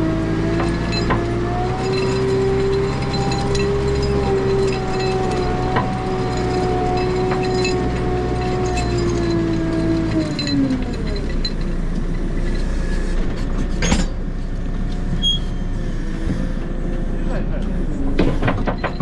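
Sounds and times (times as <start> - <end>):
diesel engine and hydraulics whine: 0.0 - 19.0.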